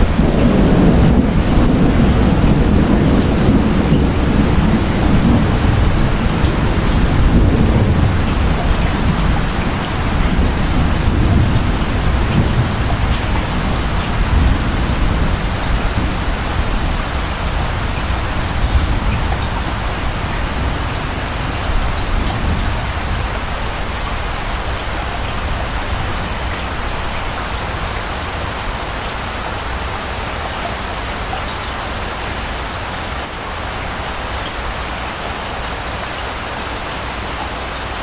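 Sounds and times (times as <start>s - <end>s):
distant thunder rumble: 0.0s - 30.6s
steady rain: 0.0s - 38.0s.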